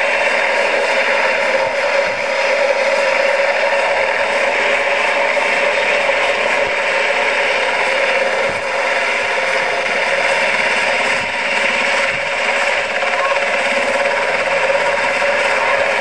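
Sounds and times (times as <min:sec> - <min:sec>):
model rotor motor whirring: 0:00.0 - 0:16.0.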